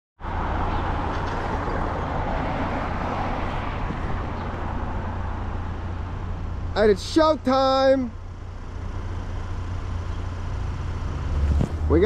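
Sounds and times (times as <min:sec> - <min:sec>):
road traffic noise: 0:00.2 - 0:12.0.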